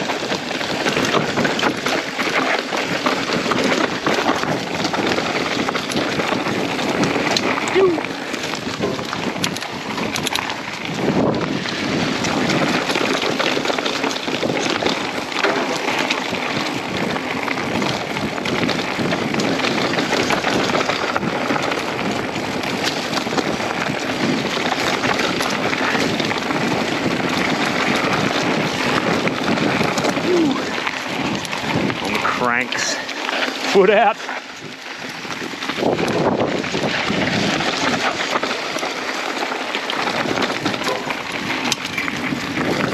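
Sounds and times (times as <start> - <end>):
bike clicks and rattles: 0.0 - 42.9
tyres running on dirt: 0.0 - 42.9
wind rushing over microphone: 0.0 - 42.9.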